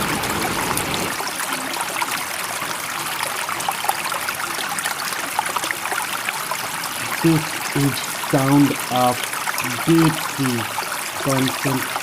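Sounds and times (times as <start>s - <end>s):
trickling babbling water: 0.0s - 12.0s.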